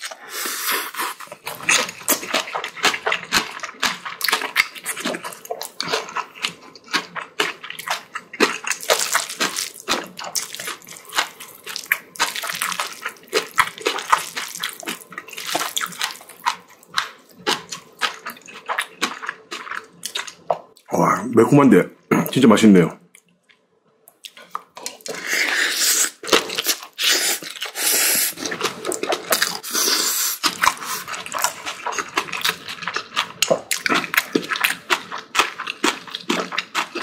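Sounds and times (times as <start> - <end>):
wet chewing: 0.0 - 20.9, 23.2 - 37.0.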